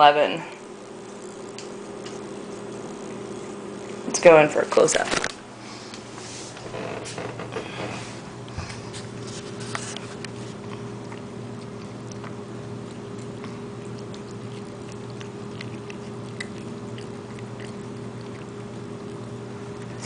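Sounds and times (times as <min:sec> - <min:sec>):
steady low hum: 0:00.0 - 0:20.0
cats chewing and licking: 0:00.6 - 0:04.4, 0:07.6 - 0:20.0.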